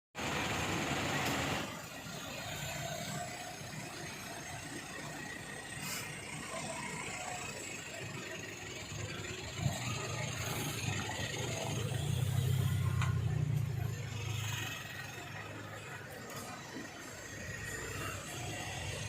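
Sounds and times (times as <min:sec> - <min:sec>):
low engine hum: 0:00.2 - 0:19.0.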